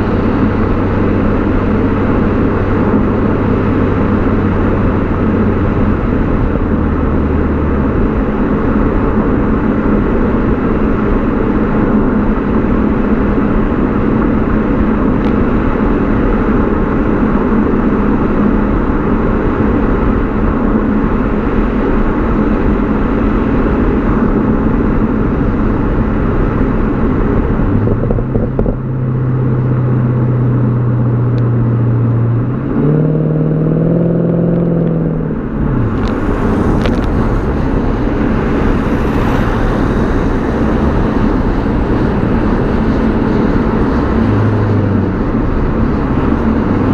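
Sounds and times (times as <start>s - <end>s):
car exhaust while driving: 0.0s - 46.9s
road and wind noise: 0.0s - 46.9s.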